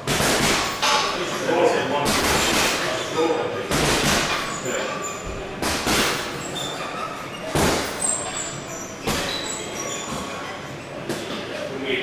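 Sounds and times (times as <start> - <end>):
gym room noise: 0.0 - 12.0.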